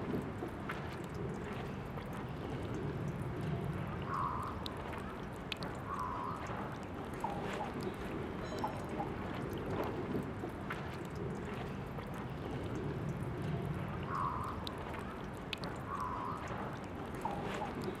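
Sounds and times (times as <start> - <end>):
water drips: 0.0 - 18.0.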